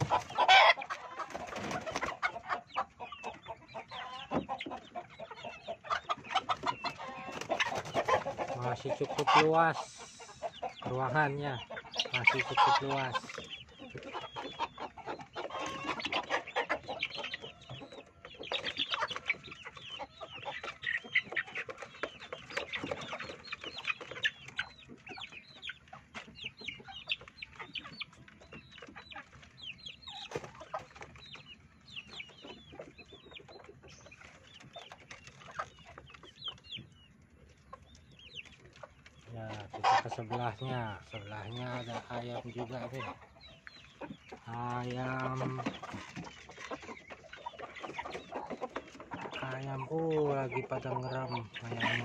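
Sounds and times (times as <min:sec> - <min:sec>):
chickens clucking: 0:00.0 - 0:52.0.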